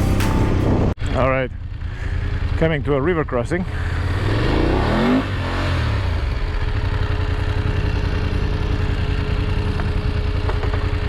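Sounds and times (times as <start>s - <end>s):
motorcycle engine revving and idling: 0.7s - 11.0s.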